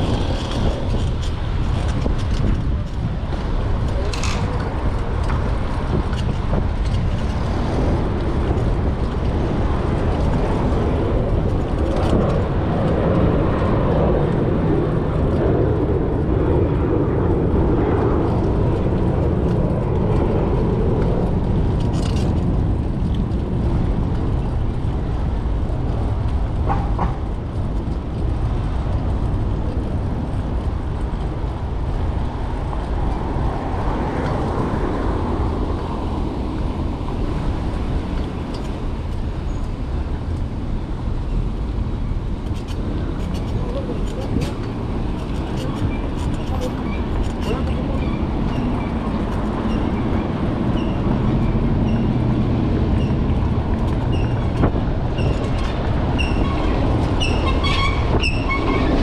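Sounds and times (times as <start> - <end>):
low rumble of road traffic: 0.0 - 59.0.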